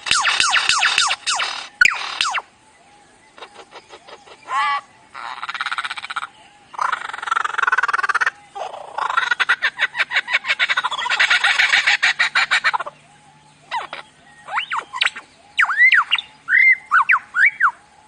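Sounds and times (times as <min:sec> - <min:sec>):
songbird calling with rattling trills: 0:00.0 - 0:18.0.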